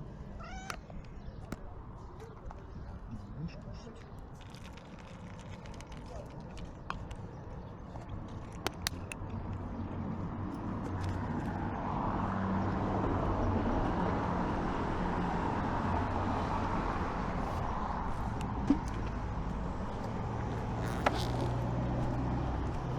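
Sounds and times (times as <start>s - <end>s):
road noise: 0.0s - 22.9s
vehicle engine humming: 4.3s - 22.9s.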